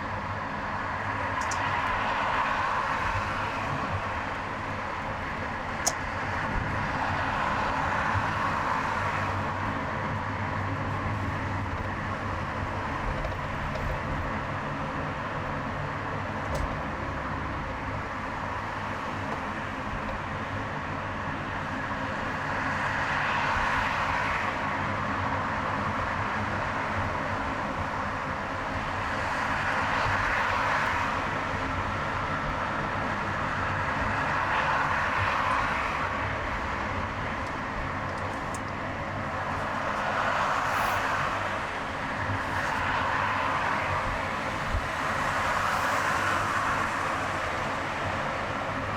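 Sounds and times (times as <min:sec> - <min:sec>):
road and tyre noise: 0:00.0 - 0:48.9.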